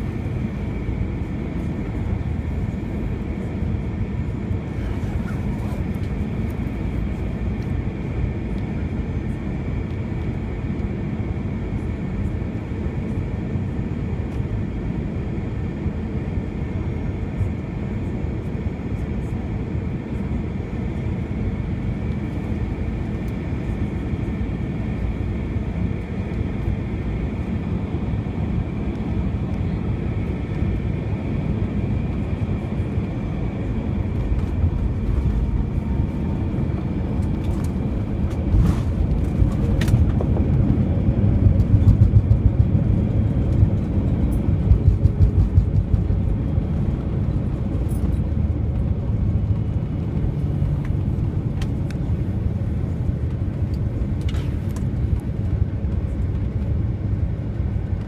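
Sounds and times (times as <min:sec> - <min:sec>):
aircraft cabin engine rush: 0:00.0 - 0:58.0.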